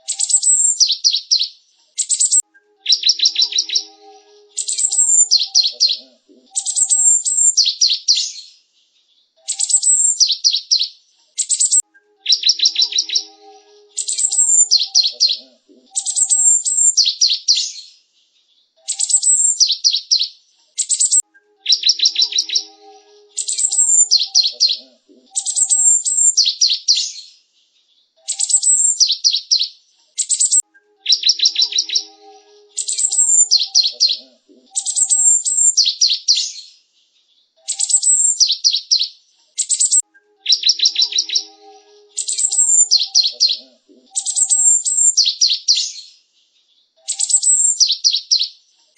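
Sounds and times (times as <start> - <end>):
bird chirping rapidly: 0.0 - 8.5, 9.5 - 17.9, 18.9 - 24.8, 25.4 - 27.3, 28.3 - 36.7, 37.7 - 46.1, 47.1 - 48.5.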